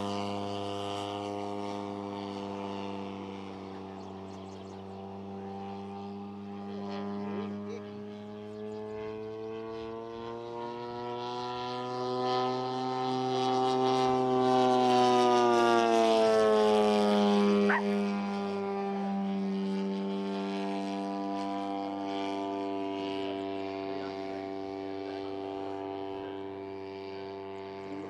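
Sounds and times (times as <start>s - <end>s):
model plane engine droning: 0.0s - 28.0s.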